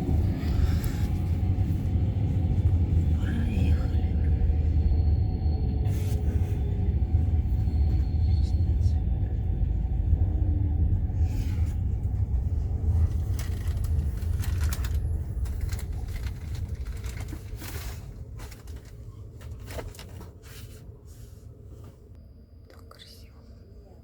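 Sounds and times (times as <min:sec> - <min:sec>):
train rumbling: 0:00.0 - 0:22.2.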